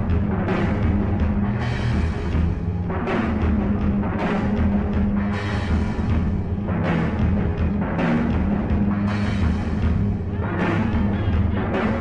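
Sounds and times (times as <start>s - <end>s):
dense background music: 0.0s - 12.0s.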